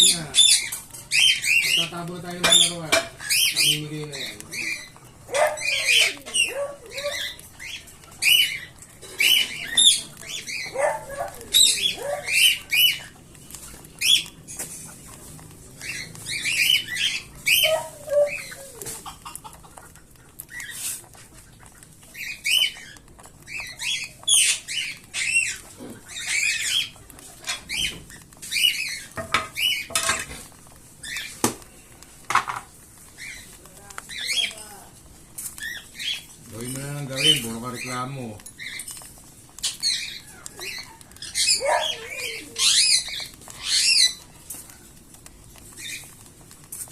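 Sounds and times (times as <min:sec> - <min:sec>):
cockatiel chicks begging calls: 0:00.0 - 0:46.9.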